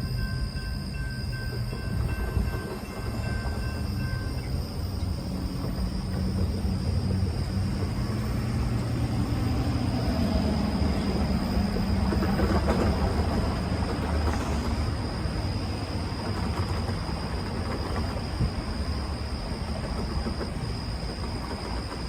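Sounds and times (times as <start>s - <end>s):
low engine hum: 0.0s - 21.4s
high whine: 0.0s - 22.0s
rail cars rumbling on track: 0.0s - 22.0s.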